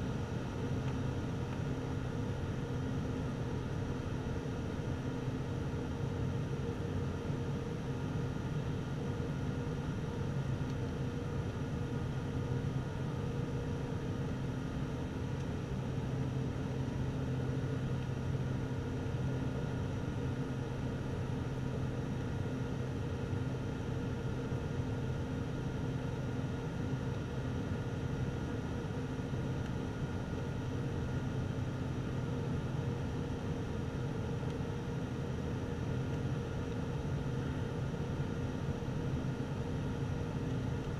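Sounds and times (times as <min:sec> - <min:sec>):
propeller engine drone: 0:00.0 - 0:40.9.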